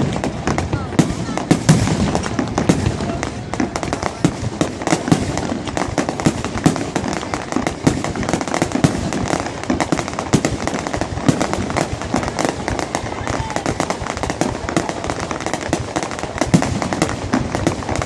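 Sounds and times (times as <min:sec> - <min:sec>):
deep firework thuds: 0:00.0 - 0:18.0
fireworks bangs and crackles: 0:00.0 - 0:18.0.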